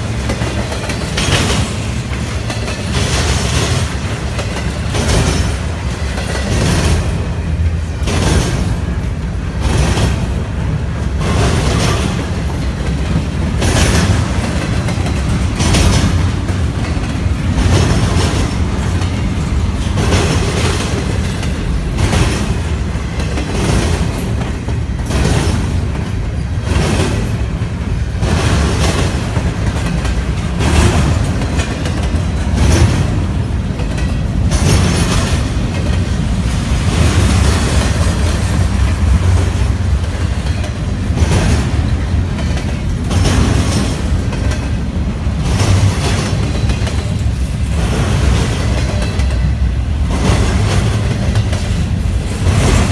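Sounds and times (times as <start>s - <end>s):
clickety-clack over rail joints: 0.0s - 52.9s
steel train wheels rumbling on rail: 0.0s - 52.9s.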